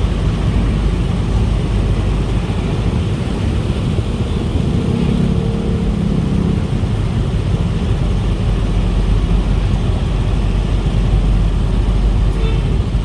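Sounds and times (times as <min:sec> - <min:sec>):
vehicles passing rumble: 0:00.0 - 0:13.0.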